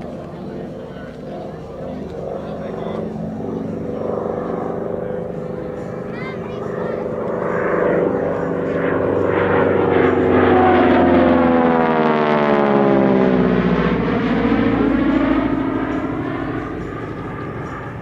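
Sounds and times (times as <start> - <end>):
propeller aircraft flying past: 0.0 - 18.0.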